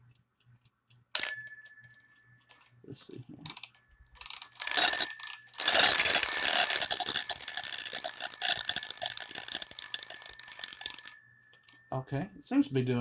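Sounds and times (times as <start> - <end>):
alarm clock bells ringing: 1.2 - 2.8, 3.6 - 13.0.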